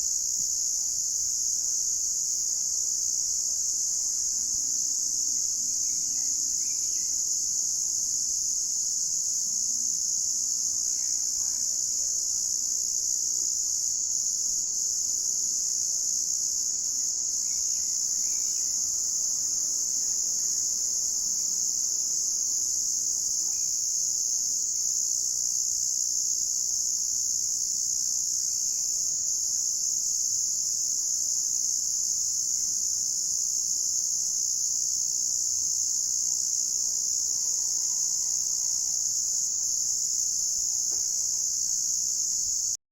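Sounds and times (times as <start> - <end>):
crickets trilling: 0.0 - 42.8.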